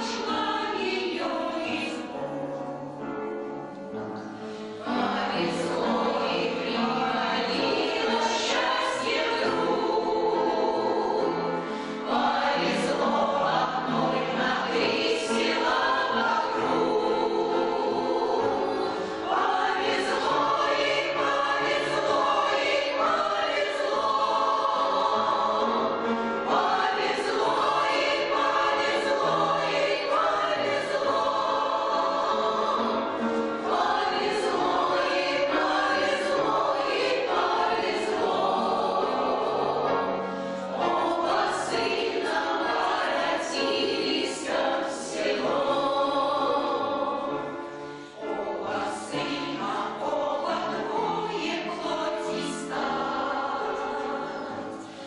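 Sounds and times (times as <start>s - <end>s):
choir singing: 0.0s - 55.0s
musical accompaniment: 0.0s - 55.0s.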